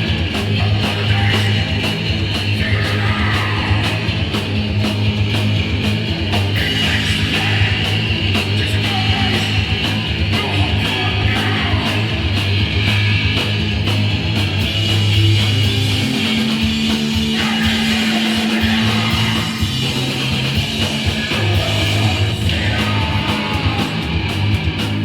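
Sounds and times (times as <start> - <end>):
punk band playing live: 0.0 - 25.0.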